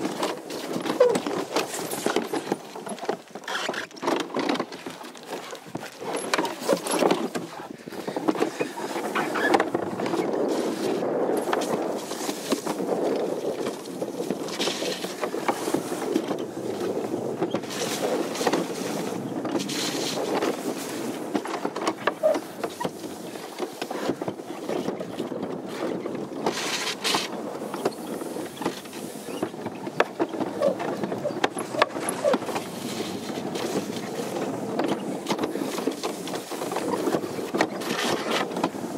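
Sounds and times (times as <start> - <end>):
sled knocking and clattering: 0.0 - 38.9
sled rolling rumble: 0.0 - 38.9.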